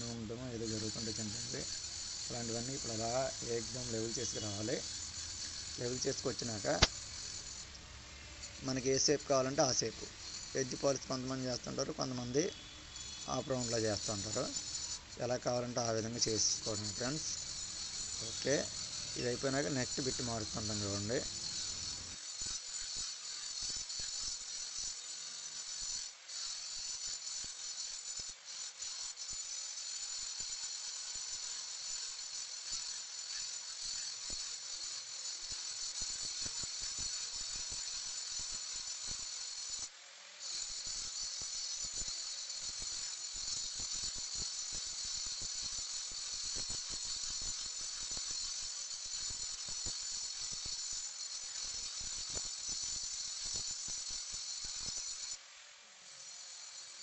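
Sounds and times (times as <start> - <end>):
angle grinder grinding stone: 0.0 - 55.4, 56.1 - 57.0.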